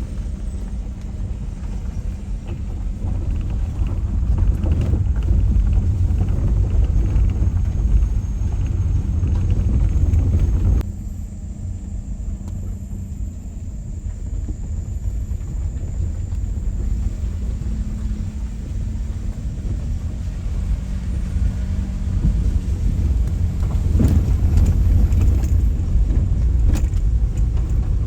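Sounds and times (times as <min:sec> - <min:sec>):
constant hum: 0:00.0 - 0:28.0
vehicle engine rumbling: 0:00.0 - 0:28.0.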